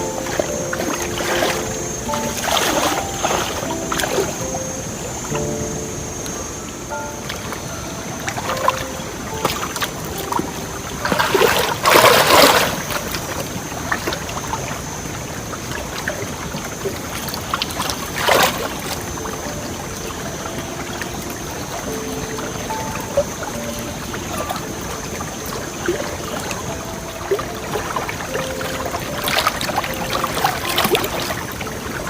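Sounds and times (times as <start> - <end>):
water splashing and stirring: 0.0 - 5.4, 8.2 - 22.6, 23.2 - 32.0
moving water: 0.0 - 32.0.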